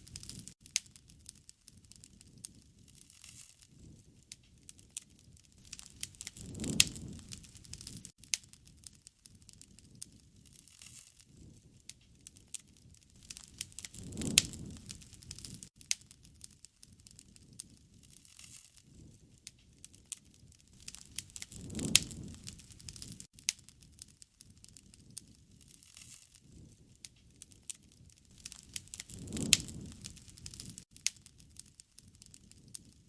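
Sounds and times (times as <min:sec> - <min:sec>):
bonfire crackling and popping: 0:00.0 - 0:33.0
rushing of flame: 0:00.0 - 0:33.0.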